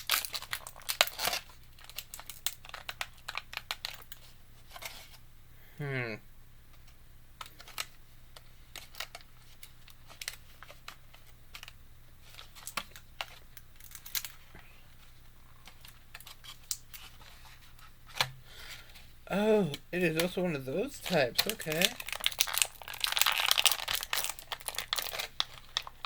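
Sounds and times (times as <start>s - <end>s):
toy packaging clicks and crinkles: 0.0s - 5.1s, 7.4s - 17.5s, 20.0s - 26.0s.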